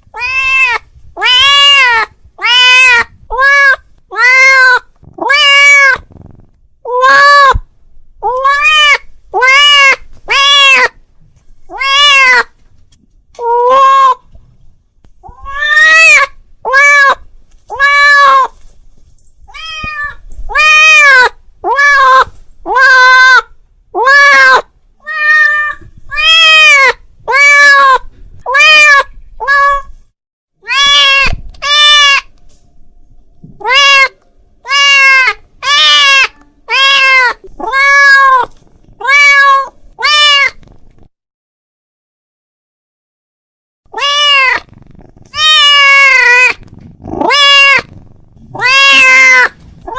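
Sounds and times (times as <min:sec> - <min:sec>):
cat meowing: 0:00.1 - 0:11.0, 0:11.7 - 0:12.6, 0:13.4 - 0:14.3, 0:15.2 - 0:18.6, 0:19.5 - 0:30.0, 0:30.6 - 0:32.4, 0:33.5 - 0:40.8, 0:43.9 - 0:49.9.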